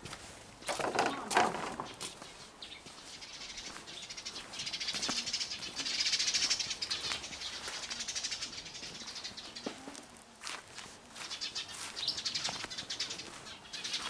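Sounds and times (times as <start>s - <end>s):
small birds twittering: 0.6s - 9.8s, 11.2s - 14.0s.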